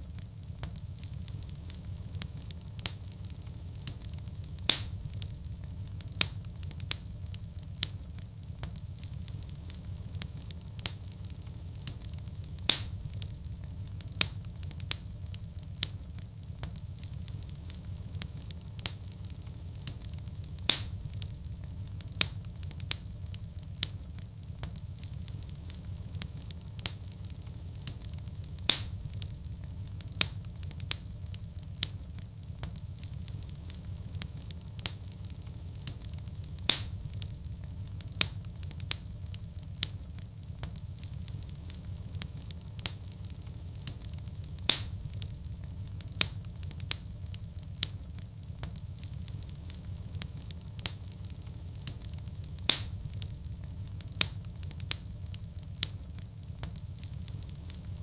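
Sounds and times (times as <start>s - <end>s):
fire crackling: 0.0s - 58.0s
fire low rumble: 0.0s - 58.0s
fire popping sharply: 0.1s - 58.0s.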